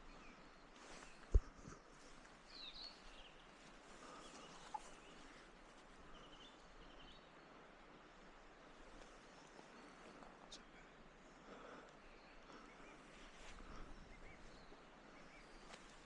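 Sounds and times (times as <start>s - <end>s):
birds chirping: 0.0s - 16.0s
faint outdoor ambience: 0.0s - 16.0s.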